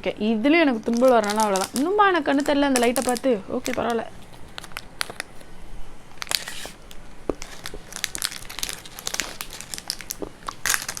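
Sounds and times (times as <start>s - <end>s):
wrapper crinkling: 0.6s - 11.0s.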